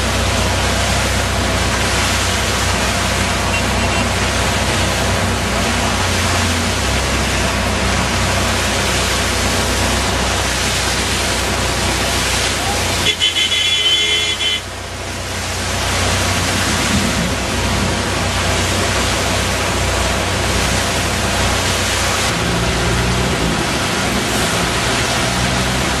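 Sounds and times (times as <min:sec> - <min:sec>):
floodwater rushing: 0:00.0 - 0:26.0
vehicle engine humming: 0:00.0 - 0:26.0.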